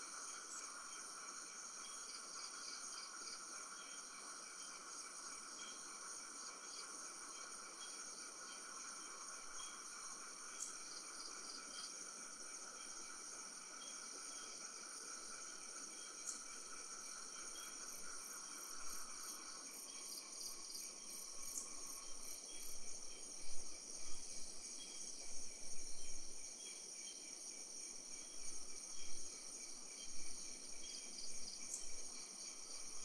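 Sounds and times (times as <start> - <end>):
crickets and insects chirring: 0.0 - 33.0
lower insect trill: 0.0 - 33.0.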